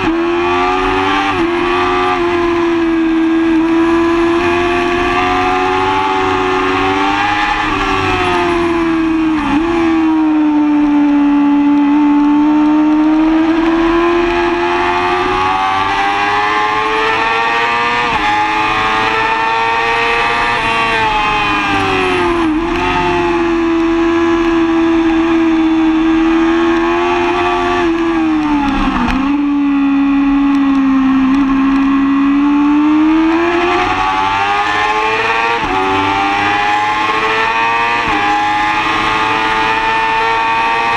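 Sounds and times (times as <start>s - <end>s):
motorcycle engine revving hard: 0.0s - 40.9s.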